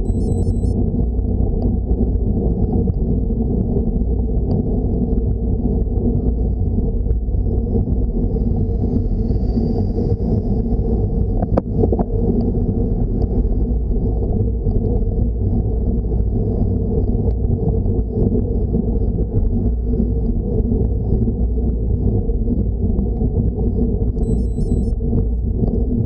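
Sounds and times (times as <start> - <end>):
wind and road rumble: 0.0 - 26.0.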